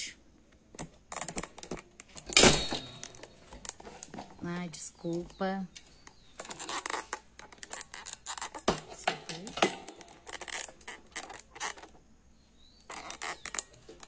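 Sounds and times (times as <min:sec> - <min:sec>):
objects being handled: 0:00.6 - 0:12.1, 0:12.8 - 0:14.0.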